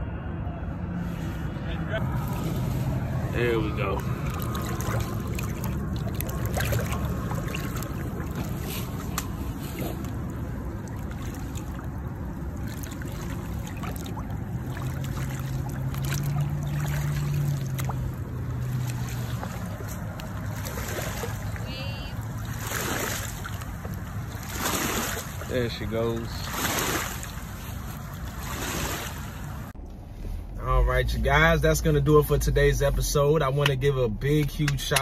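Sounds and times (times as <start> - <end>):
low steady hum: 0.0 - 35.0
river water splashing: 1.0 - 29.8.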